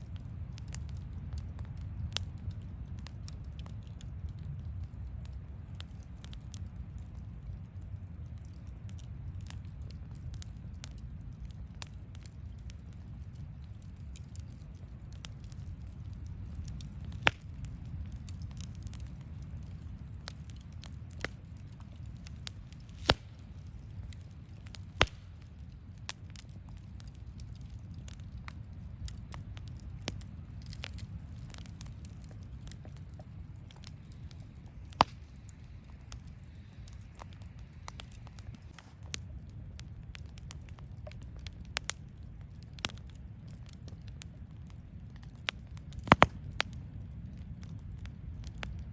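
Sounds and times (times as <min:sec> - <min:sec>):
campfire crackling: 0:00.0 - 0:48.9
fire popping: 0:00.0 - 0:48.9.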